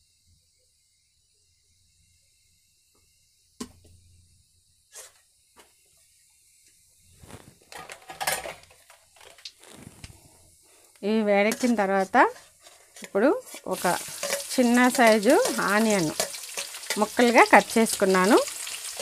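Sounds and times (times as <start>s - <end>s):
spices sizzling in hot oil: 0.2s - 19.0s.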